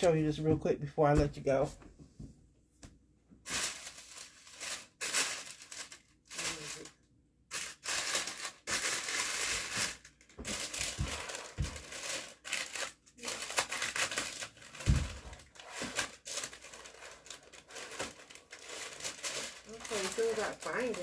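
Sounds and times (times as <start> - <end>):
plastic or paper rustling: 3.4 - 21.0.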